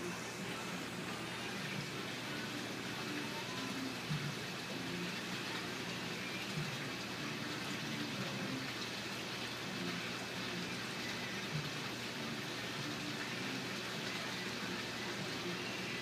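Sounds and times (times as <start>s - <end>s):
aquarium water and bubbles hissing: 0.0s - 16.0s.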